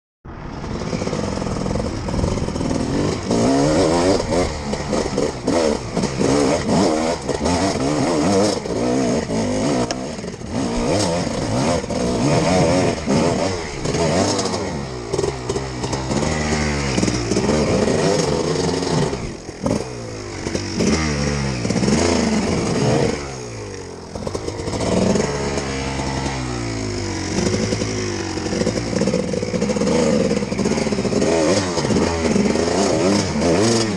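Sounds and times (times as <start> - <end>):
dirt bike engine revving: 0.5 - 33.9.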